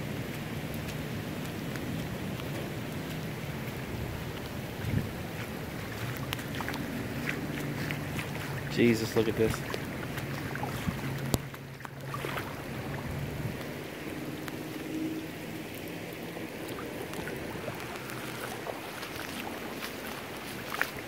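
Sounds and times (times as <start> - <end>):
heavy rain on standing water: 0.0 - 21.0.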